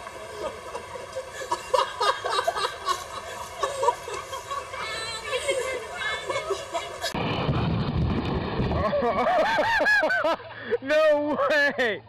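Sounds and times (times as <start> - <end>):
people laughing: 0.2 - 7.2, 8.7 - 12.0.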